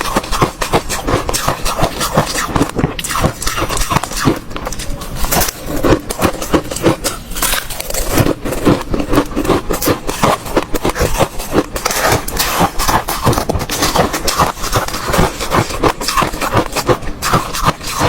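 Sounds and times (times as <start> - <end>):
ice cubes being chewed: 0.0 - 18.0.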